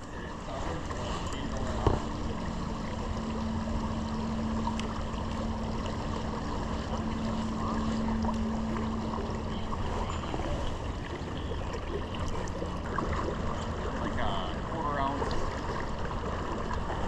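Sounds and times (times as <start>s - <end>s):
steady low hum: 0.0s - 17.0s
stream water rushing: 0.0s - 17.0s.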